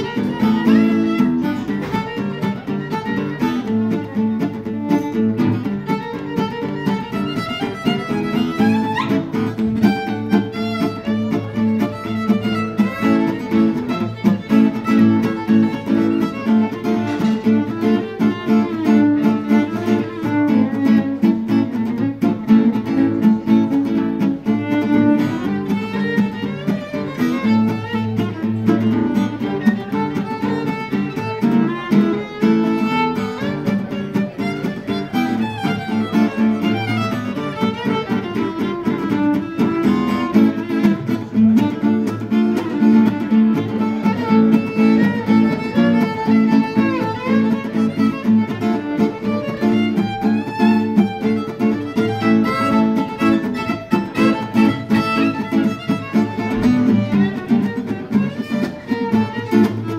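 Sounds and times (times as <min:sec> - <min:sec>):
strummed acoustic guitar: 0:00.0 - 0:59.9
violin melody: 0:00.0 - 0:59.9.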